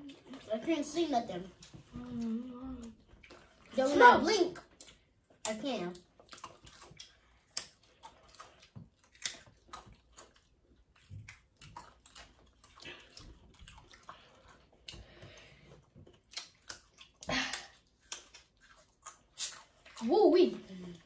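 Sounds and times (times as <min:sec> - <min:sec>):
chewing and crunching food: 0:00.0 - 0:21.0.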